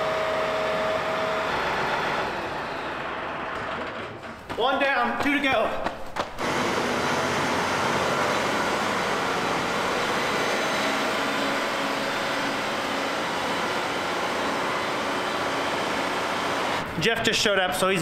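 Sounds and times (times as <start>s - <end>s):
tractor diesel engine running: 0.0s - 4.5s, 6.4s - 17.4s.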